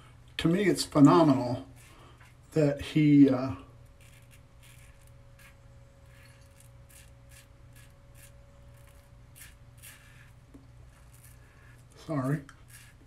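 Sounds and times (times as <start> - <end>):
razor scraping stubble: 1.0 - 13.0.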